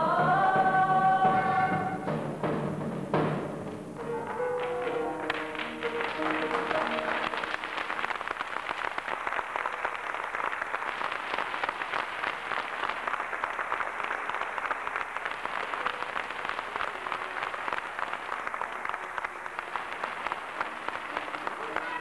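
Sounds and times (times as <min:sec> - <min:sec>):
audience applause: 0:04.0 - 0:22.0.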